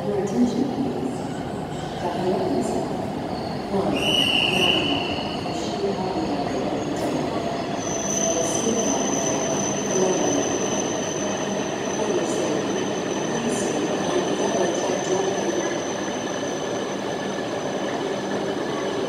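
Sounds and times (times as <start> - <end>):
train rolling to a stop: 1.0 - 19.0.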